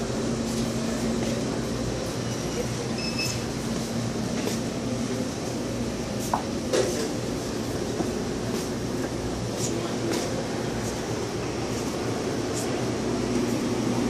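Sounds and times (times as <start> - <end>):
ventilation hum and rumble: 0.0 - 14.0.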